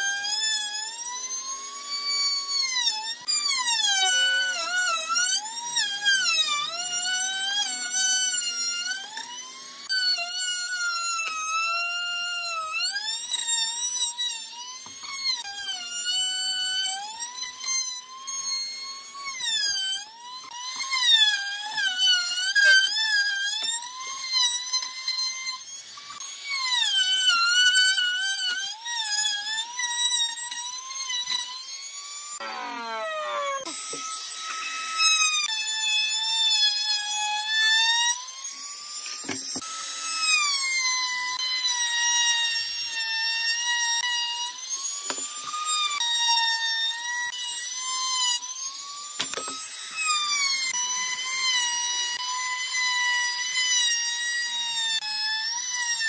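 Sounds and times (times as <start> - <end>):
router motor whine cutting wood: 0.0 - 56.0.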